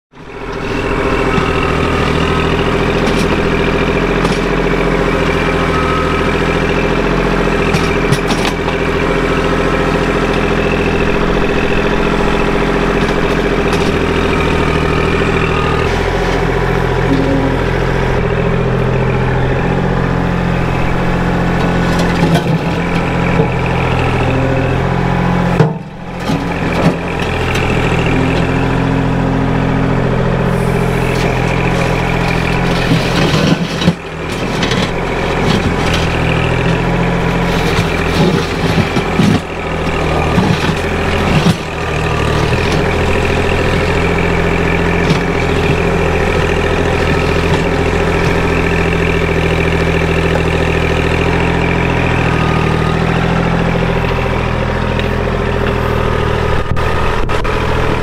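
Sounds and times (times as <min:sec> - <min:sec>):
loader bucket in sandy soil: 0:00.1 - 0:58.0
tractor diesel engine running: 0:00.1 - 0:58.0.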